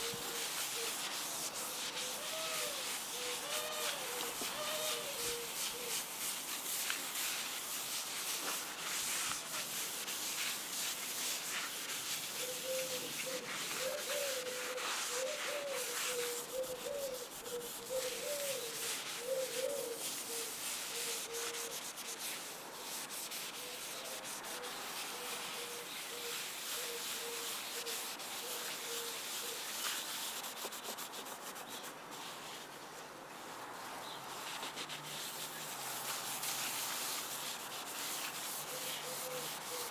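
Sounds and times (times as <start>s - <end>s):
pad scrubbing wood surface: 0.0s - 32.6s, 34.4s - 39.9s.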